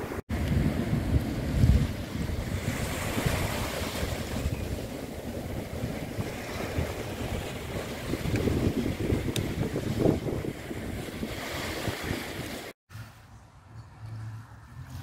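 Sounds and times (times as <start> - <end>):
small waves breaking: 0.0 - 12.8
wind buffeting microphone: 0.0 - 12.8.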